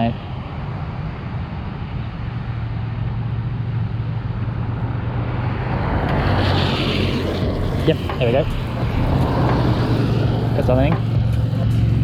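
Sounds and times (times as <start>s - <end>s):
road traffic rumbling: 0.0s - 12.0s
vehicle approaching: 0.2s - 12.0s.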